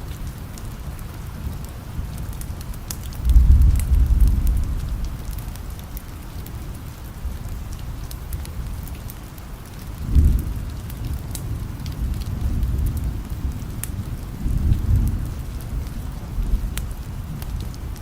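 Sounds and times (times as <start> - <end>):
steady rain: 0.0 - 18.0
low rumble of thunder: 1.3 - 8.9, 9.9 - 18.0.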